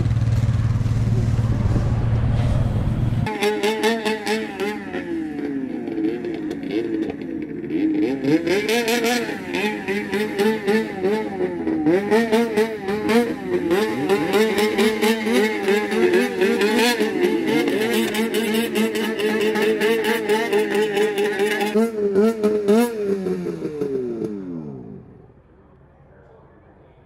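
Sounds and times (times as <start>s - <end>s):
snowmobile engines revving: 0.0s - 25.0s.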